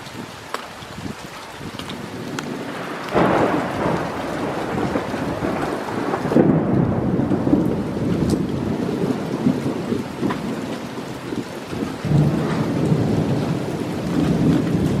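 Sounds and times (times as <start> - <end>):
heavy rain falling: 0.0 - 15.0
thunder rumbling: 1.0 - 15.0.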